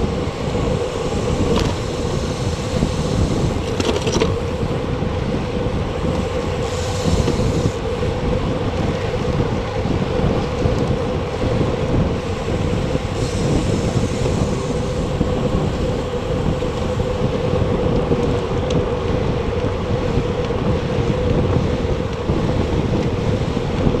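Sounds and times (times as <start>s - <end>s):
steady hum: 0.0s - 24.0s
wind rushing over microphone: 0.0s - 24.0s.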